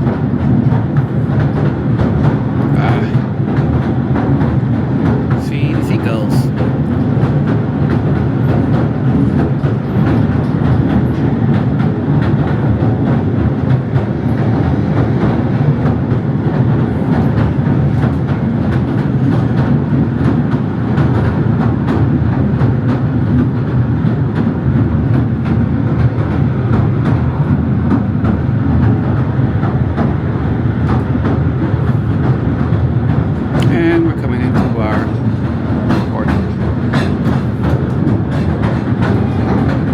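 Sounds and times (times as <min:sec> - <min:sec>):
train rumbling on track: 0:00.0 - 0:39.9.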